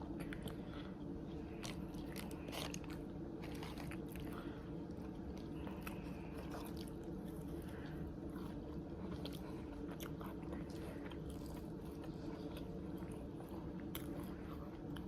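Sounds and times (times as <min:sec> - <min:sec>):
person chewing food: 0:00.0 - 0:15.0
steady low hum: 0:00.0 - 0:15.0
food crunches: 0:01.3 - 0:15.0.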